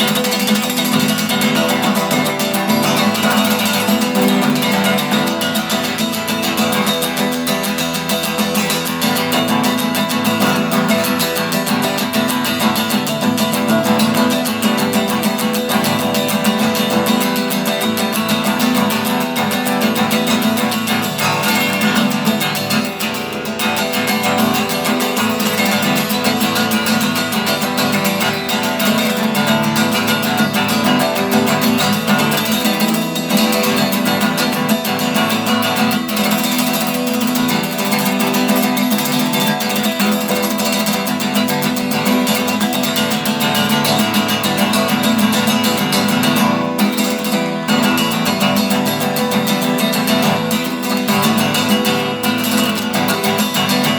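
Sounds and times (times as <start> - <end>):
guitar strumming and picking: 0.0 - 53.9.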